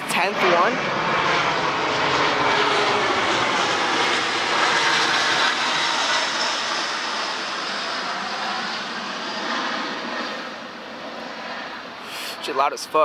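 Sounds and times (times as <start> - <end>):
airplane flying overhead: 0.0 - 13.0.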